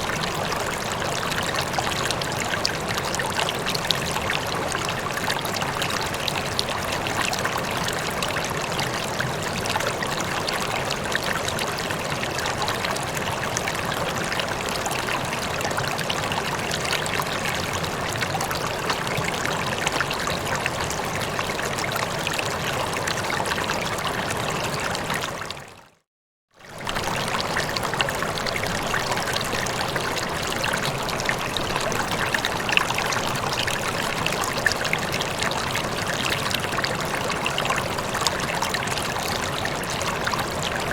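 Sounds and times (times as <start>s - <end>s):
water trickling and burbling: 0.0s - 26.0s, 26.6s - 40.9s.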